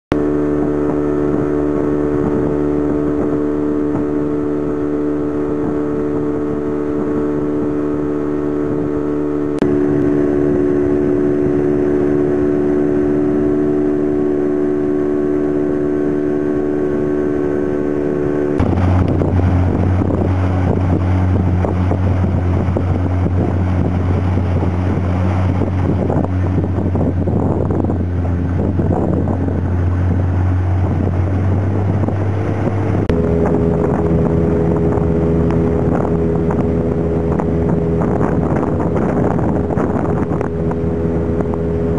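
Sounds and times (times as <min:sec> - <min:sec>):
motorboat engine running: 0:00.1 - 0:41.9
rushing wind: 0:00.1 - 0:41.9
water rushing: 0:00.1 - 0:41.9.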